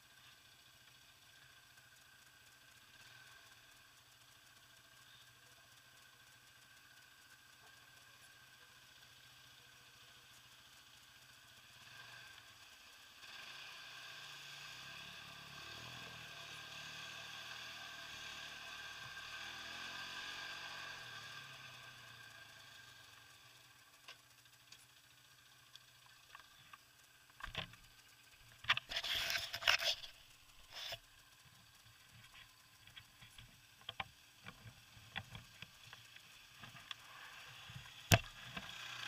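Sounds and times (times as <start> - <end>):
quad bike engine: 0.0 - 39.0.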